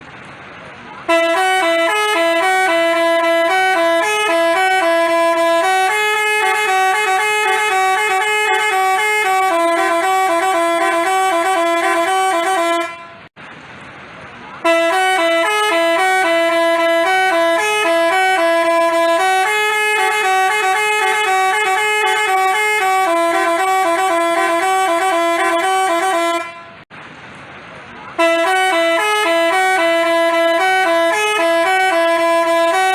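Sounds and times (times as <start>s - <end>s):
multi-tone musical bus horn: 1.0s - 13.4s, 14.6s - 26.9s, 28.1s - 32.9s.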